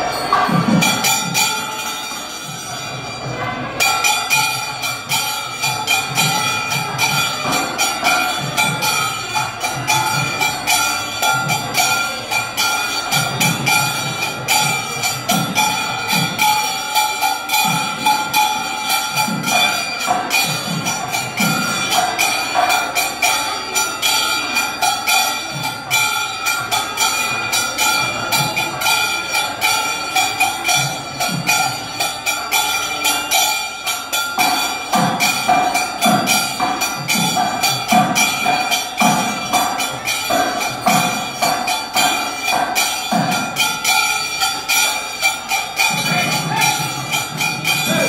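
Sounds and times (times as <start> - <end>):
bells ringing rapidly: 0.0 - 48.0
drum beats: 0.0 - 48.0.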